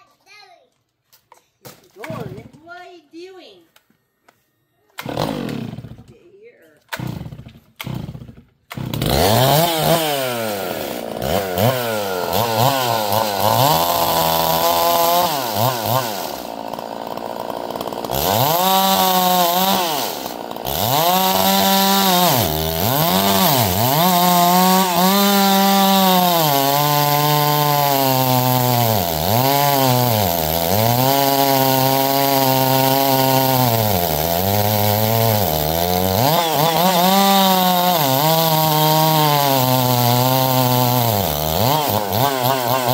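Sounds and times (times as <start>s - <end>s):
chainsaw cutting wood: 1.1s - 3.0s, 4.8s - 42.9s.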